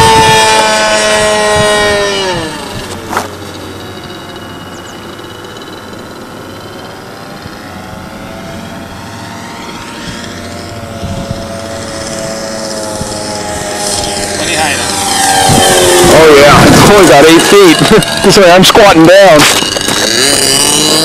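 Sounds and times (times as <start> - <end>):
model airplane engine droning: 0.0 - 21.0.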